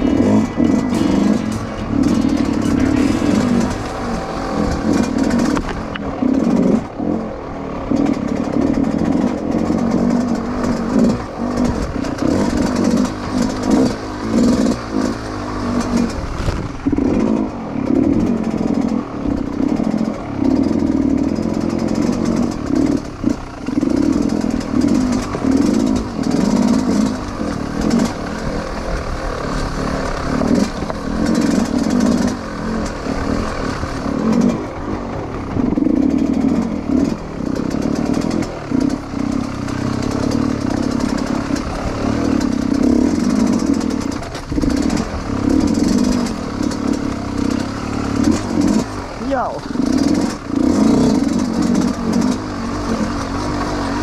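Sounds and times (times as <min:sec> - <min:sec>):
dirt bike engine revving: 0:00.0 - 0:54.0
rattling and clatter: 0:00.0 - 0:54.0.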